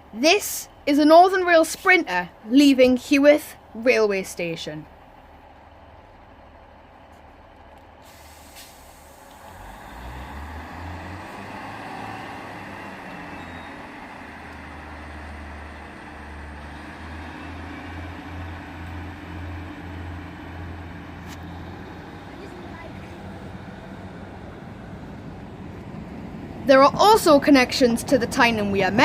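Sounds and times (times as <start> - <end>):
diesel train engine rumbling: 0.0 - 29.0.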